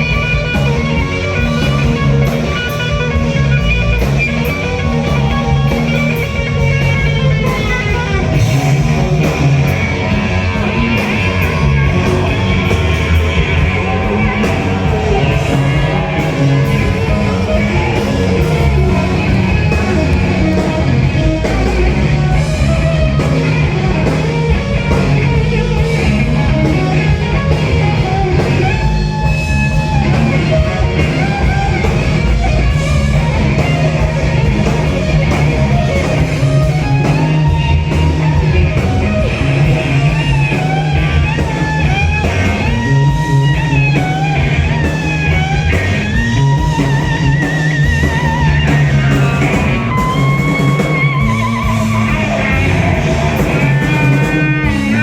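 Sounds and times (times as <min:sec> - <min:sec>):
bass and drums: 0:00.0 - 0:55.0
electric guitar lead: 0:00.0 - 0:55.0.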